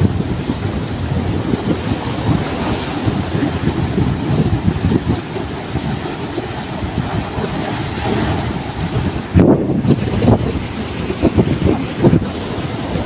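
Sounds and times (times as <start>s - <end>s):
surf breaking over rocks: 0.0s - 13.0s
wind buffeting microphone: 0.0s - 13.0s.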